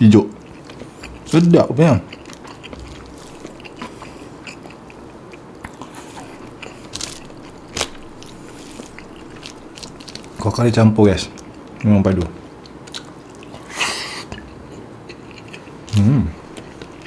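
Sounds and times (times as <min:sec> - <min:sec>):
chewing: 0:00.3 - 0:10.4, 0:12.6 - 0:17.0.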